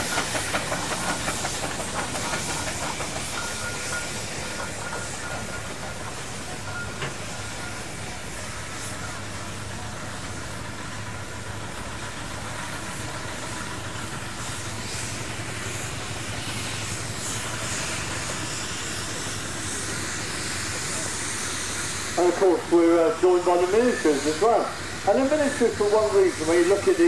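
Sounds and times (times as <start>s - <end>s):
steam hissing: 0.0s - 27.0s.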